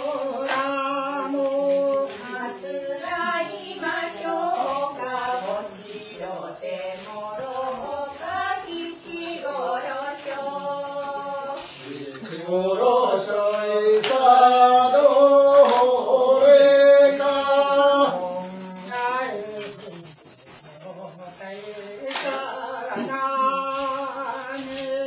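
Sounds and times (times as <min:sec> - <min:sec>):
voices singing a folk song: 0:00.0 - 0:25.0.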